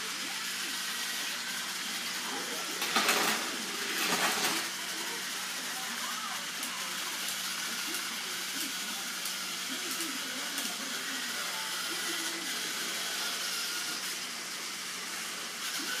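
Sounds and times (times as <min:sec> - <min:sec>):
faint wavering voices: 0:00.0 - 0:16.0.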